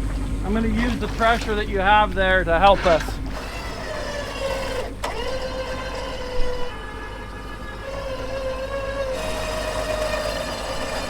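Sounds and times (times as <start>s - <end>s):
winch whining under load: 0.0s - 11.0s.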